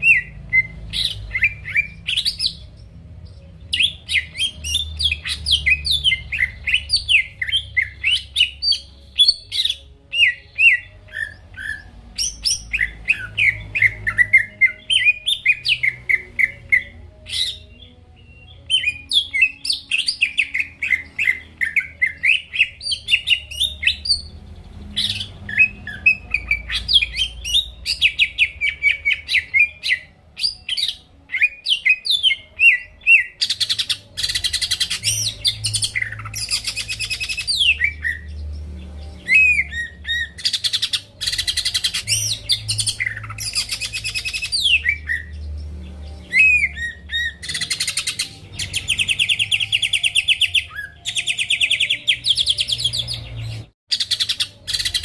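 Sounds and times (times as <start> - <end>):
bird singing rapid chirps and whistles: 0.0 - 55.0.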